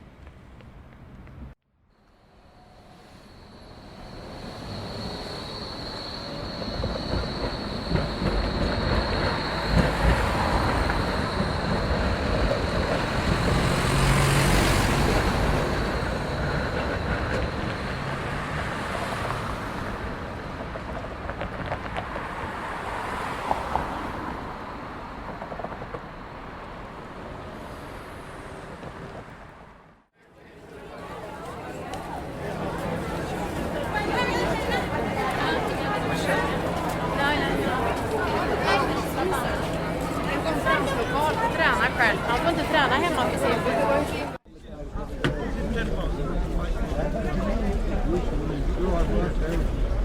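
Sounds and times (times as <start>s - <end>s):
train passing with rattling: 0.2s - 50.0s.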